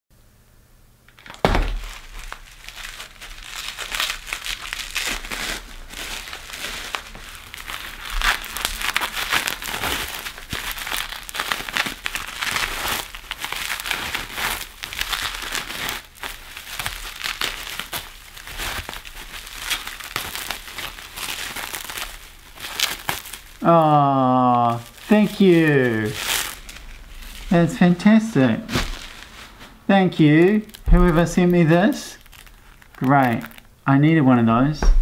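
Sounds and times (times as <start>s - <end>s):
bubble wrap crinkling: 1.1s - 34.6s.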